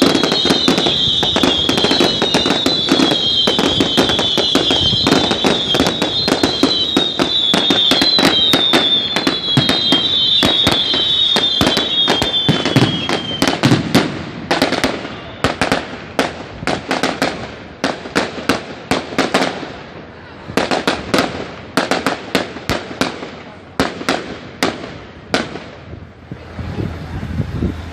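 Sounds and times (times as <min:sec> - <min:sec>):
fireworks crackling: 0:00.0 - 0:27.9
fireworks whistling: 0:00.0 - 0:27.9.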